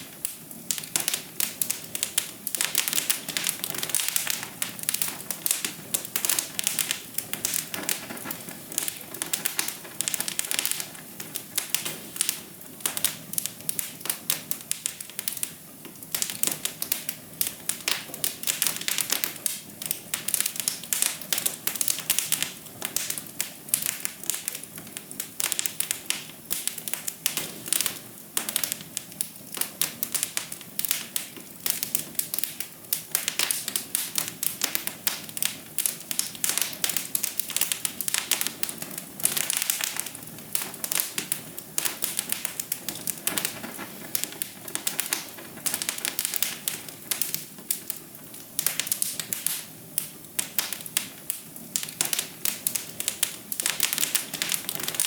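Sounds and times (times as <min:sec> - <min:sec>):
soft steady hiss: 0:00.0 - 0:55.0
wood fire crackling: 0:00.0 - 0:55.0.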